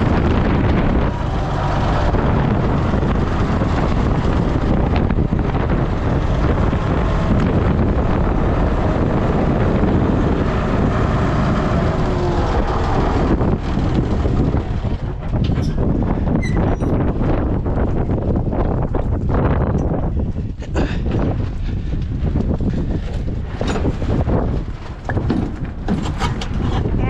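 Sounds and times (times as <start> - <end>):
vehicle engine running: 0.0 - 27.0
wind buffeting microphone: 0.0 - 27.0.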